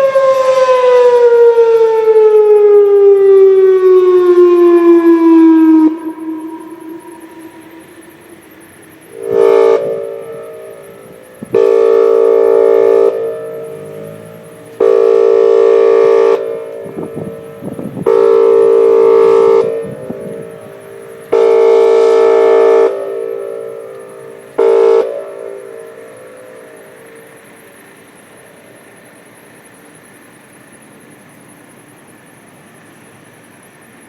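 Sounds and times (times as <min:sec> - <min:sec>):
pulsed warning siren blasts: 0:00.0 - 0:29.6.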